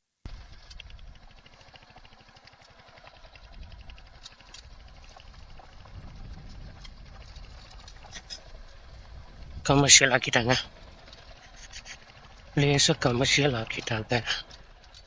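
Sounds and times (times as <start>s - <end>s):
motorcycle engine running: 0.3s - 15.0s.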